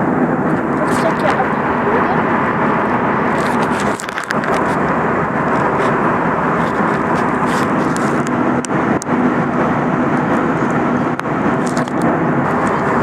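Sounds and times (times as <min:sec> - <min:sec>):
airliner cabin roar: 0:00.0 - 0:13.0
low hum: 0:00.0 - 0:13.0.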